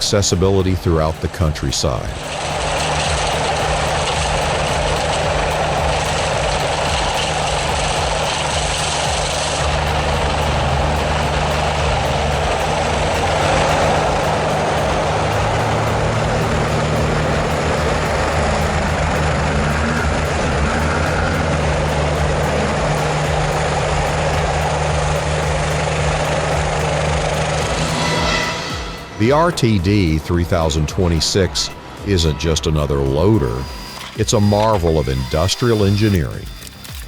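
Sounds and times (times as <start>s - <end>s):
heavy vehicle engine running: 0.0s - 32.3s
dense rushing noise: 0.0s - 36.4s.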